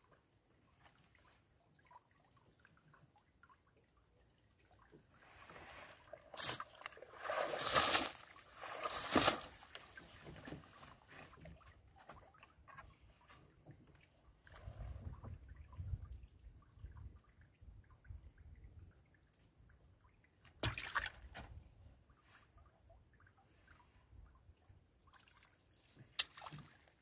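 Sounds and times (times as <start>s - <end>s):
faint water trickling: 0.0s - 27.0s
water sloshing around boat: 0.0s - 27.0s.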